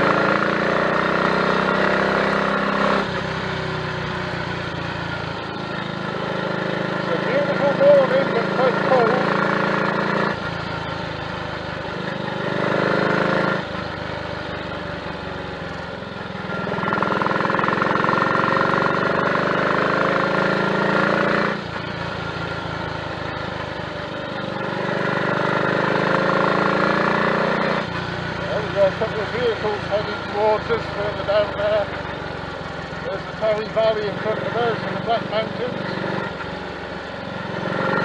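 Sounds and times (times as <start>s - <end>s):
motorcycle engine under way: 0.0s - 38.0s.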